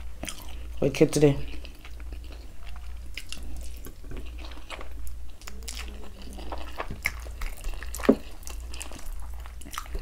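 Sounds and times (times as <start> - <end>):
person chewing food: 0.0 - 0.8, 1.4 - 10.0.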